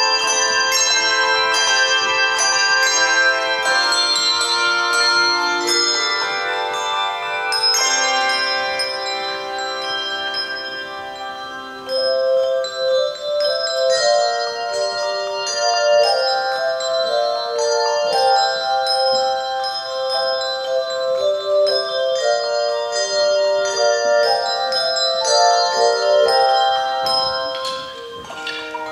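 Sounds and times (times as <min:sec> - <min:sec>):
tuned bells playing music: 0:00.0 - 0:28.9.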